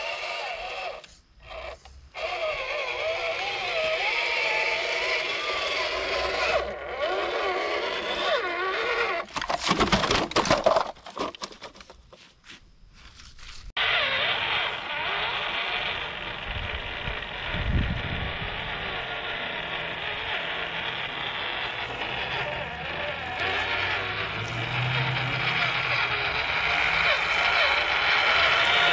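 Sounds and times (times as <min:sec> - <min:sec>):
electric motor whining: 0:00.0 - 0:09.4, 0:13.3 - 0:28.9.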